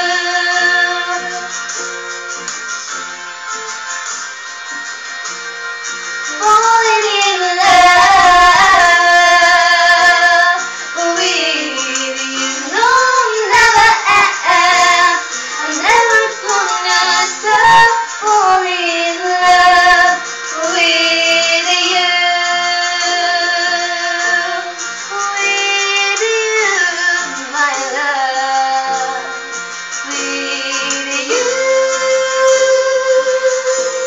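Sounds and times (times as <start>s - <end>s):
women singing: 0.0s - 1.6s, 6.3s - 29.4s, 30.0s - 34.0s
acoustic guitar: 0.0s - 34.0s.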